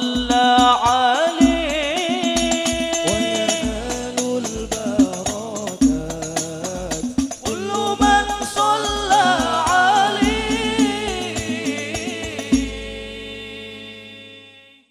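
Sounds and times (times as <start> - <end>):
frame drums beating: 0.0 - 13.3
men singing together: 0.0 - 14.7.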